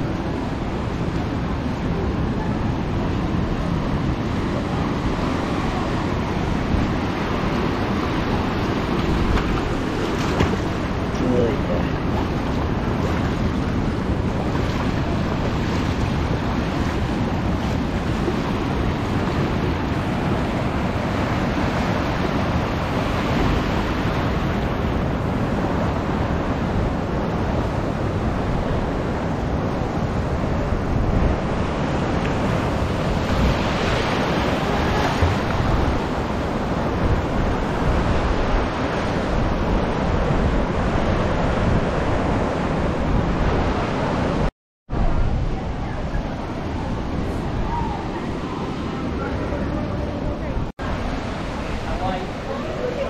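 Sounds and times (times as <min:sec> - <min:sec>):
ocean surf breaking: 0:00.0 - 0:53.0
wind rumbling on microphone: 0:00.0 - 0:53.0.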